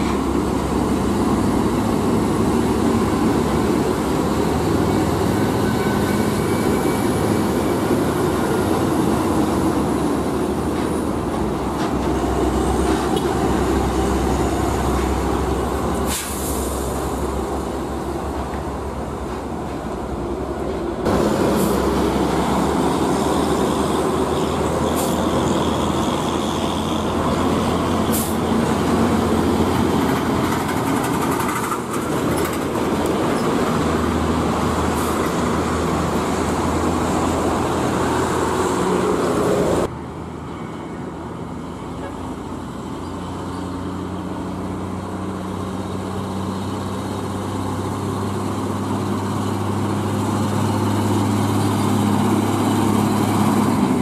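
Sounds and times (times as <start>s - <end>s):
diesel trucks driving past: 0.0s - 54.0s.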